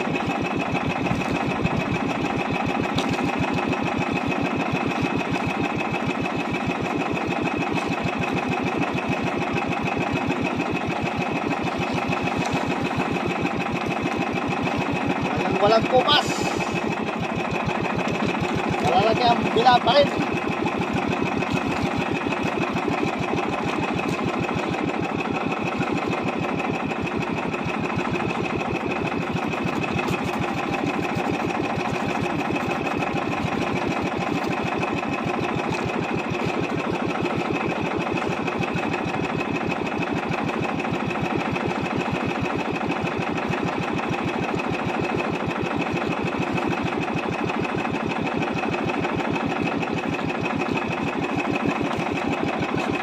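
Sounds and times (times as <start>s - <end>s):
boat engine puttering: 0.0s - 53.0s.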